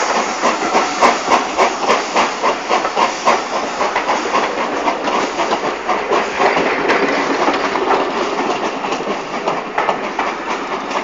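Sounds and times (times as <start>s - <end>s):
train wheels rumbling on rail: 0.0s - 11.0s
wheels clicking over rail joints: 0.0s - 11.0s.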